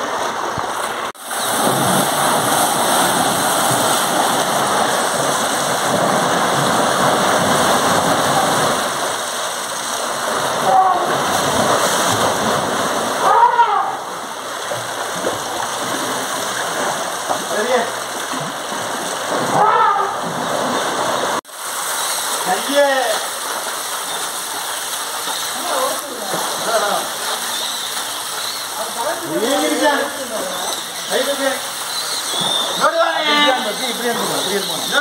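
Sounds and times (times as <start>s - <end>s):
hose water rushing and splashing: 0.0s - 35.0s.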